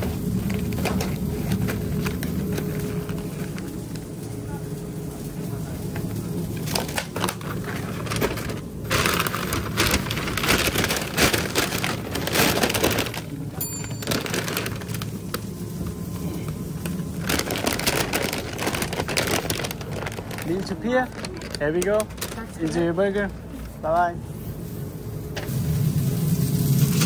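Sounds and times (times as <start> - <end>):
paper bag crinkling: 0.0 - 4.5, 6.0 - 23.3.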